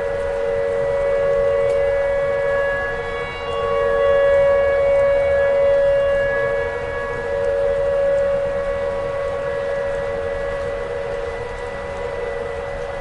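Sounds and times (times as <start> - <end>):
tornado warning siren: 0.0 - 13.0.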